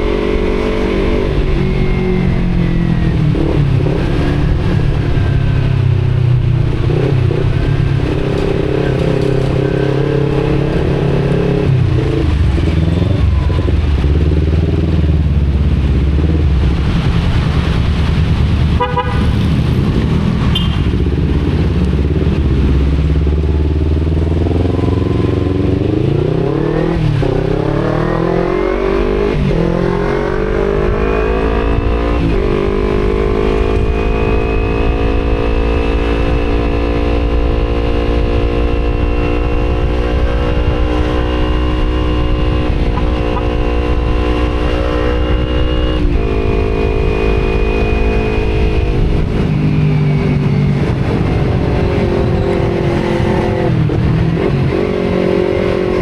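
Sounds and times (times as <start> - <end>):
motorcycle engine accelerating: 0.0 - 56.0
wind rumble: 0.0 - 56.0.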